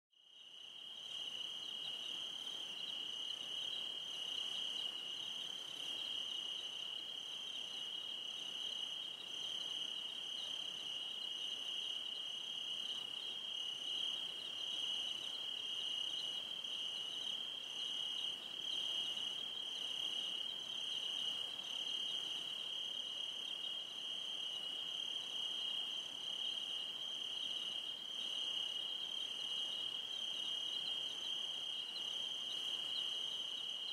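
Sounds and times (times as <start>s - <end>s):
higher cricket chirp: 0.3s - 33.9s
cricket trilling: 0.4s - 33.9s.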